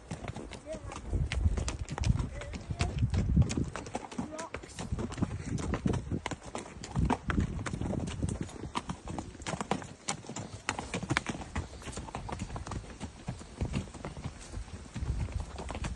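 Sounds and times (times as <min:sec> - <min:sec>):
horse hooves clip-clopping: 0:00.0 - 0:15.9.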